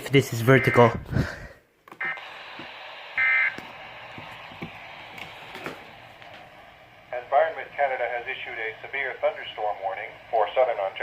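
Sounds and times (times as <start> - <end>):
radio static hiss: 2.0 - 11.0.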